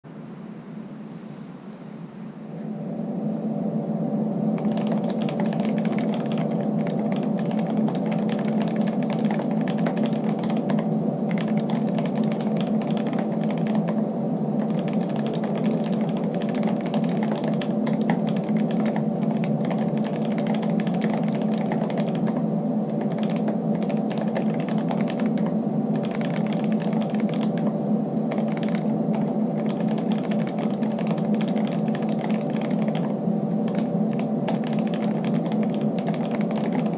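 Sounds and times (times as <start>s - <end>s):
mechanical keyboard typing: 4.6s - 14.0s, 14.6s - 27.7s, 28.3s - 36.9s.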